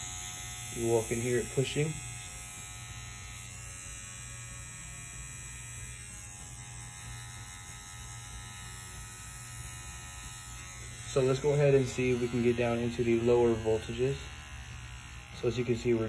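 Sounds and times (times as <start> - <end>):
tattoo machine buzzing: 0.0 - 16.0.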